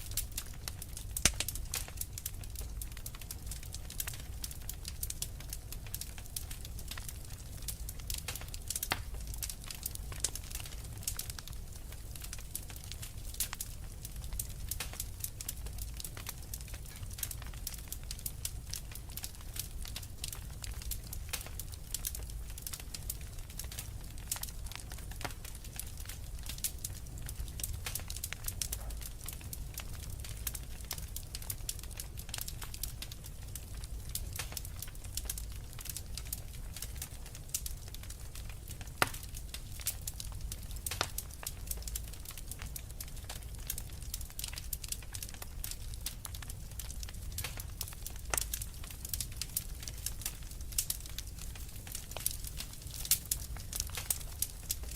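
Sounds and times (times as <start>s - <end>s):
flames rumbling: 0.0s - 54.9s
logs crackling and snapping: 0.0s - 54.9s.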